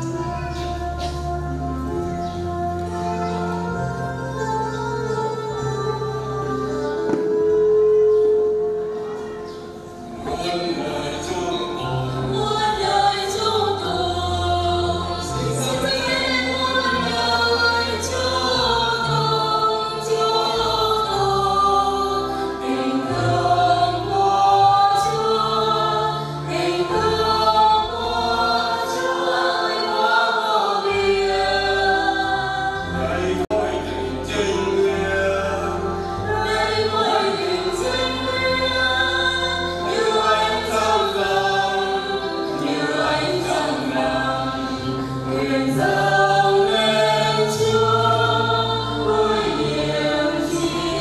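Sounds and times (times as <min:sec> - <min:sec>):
choir singing a hymn: 0:00.0 - 0:51.0
sustained low accompaniment notes: 0:00.0 - 0:51.0.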